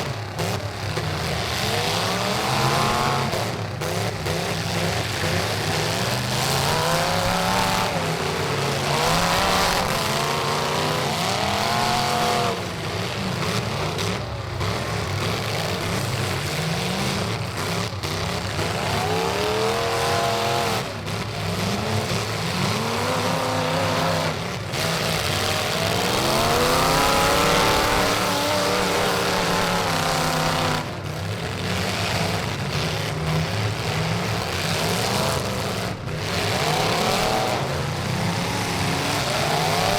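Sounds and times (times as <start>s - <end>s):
race truck engines passing by: 0.0s - 39.9s.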